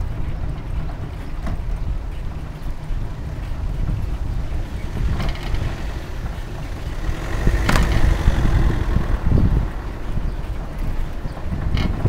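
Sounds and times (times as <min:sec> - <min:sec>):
bicycle ride rumble: 0:00.0 - 0:12.0
wind buffeting microphone: 0:00.0 - 0:12.0.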